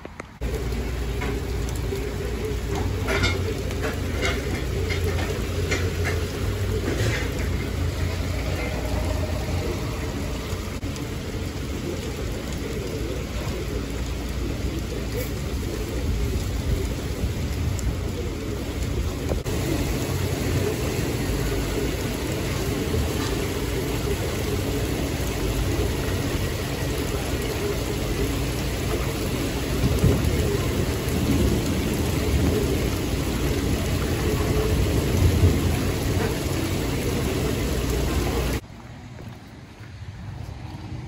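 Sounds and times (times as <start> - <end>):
heavy rain pouring: 0.0 - 41.0.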